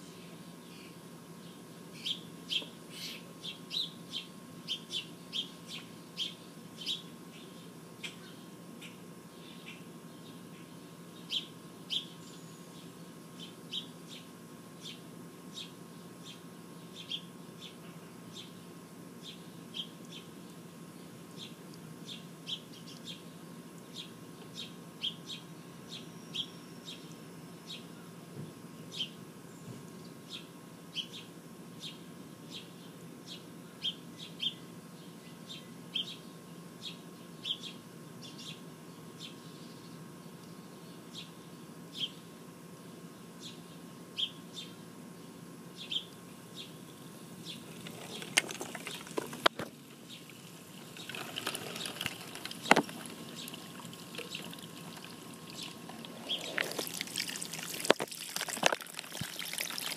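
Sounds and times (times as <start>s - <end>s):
songbird chirping: 0.6s - 49.4s, 50.0s - 57.4s.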